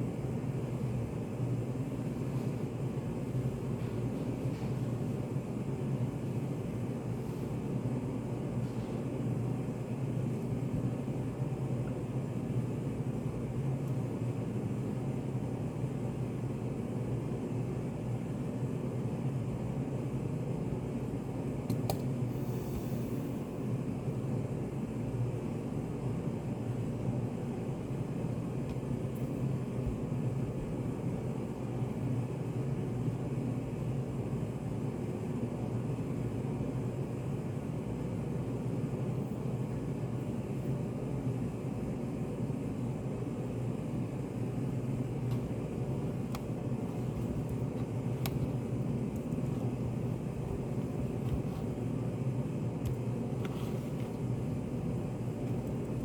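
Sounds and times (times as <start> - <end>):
low room ambience drone: 0.0 - 56.0.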